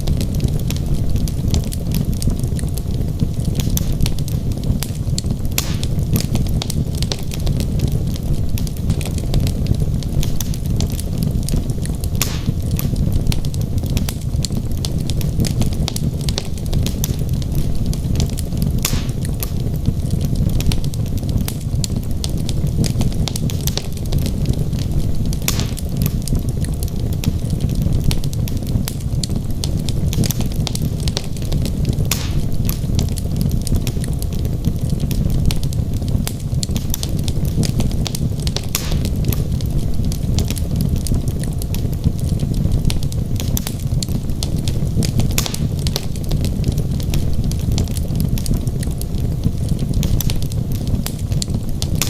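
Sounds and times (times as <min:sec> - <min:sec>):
fire crackles and pops: 0:00.0 - 0:52.0
low rush of flame: 0:00.0 - 0:52.0.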